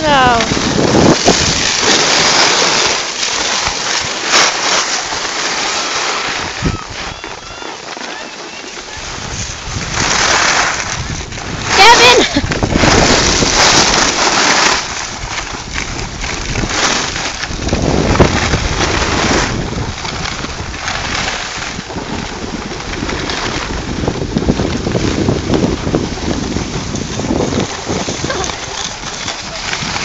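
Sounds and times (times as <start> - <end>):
wind rushing over microphone: 0.0 - 5.2, 5.8 - 7.6, 8.8 - 30.0
skis sliding on snow: 0.0 - 30.0.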